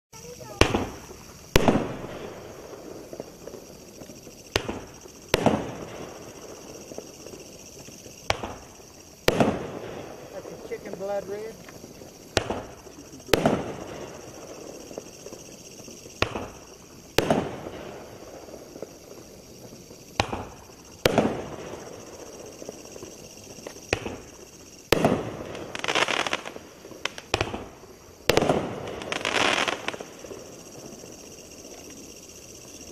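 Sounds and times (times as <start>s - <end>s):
firework bangs: 0.2s - 32.8s
firework crackling: 0.2s - 32.9s.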